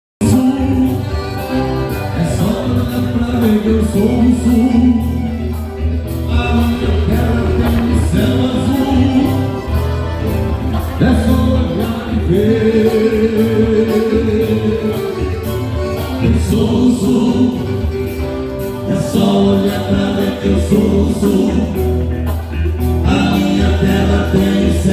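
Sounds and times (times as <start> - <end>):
person singing: 0.2 - 22.0
live band playing: 0.2 - 24.9.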